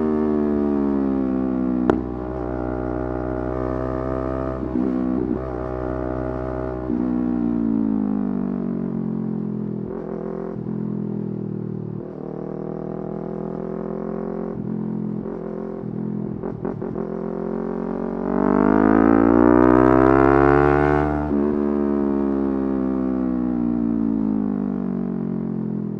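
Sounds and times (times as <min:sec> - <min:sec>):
motorcycle engine revving: 0:00.0 - 0:07.8, 0:09.8 - 0:23.5.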